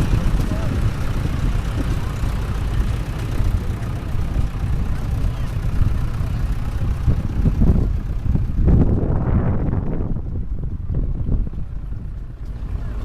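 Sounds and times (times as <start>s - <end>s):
engines rumbling: 0.0s - 13.0s.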